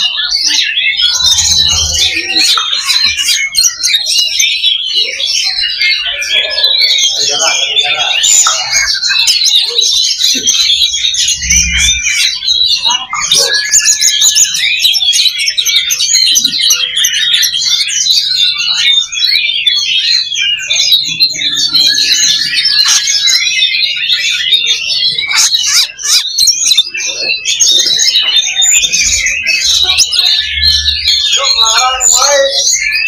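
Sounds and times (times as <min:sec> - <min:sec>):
birds singing in chorus: 0:00.0 - 0:33.0.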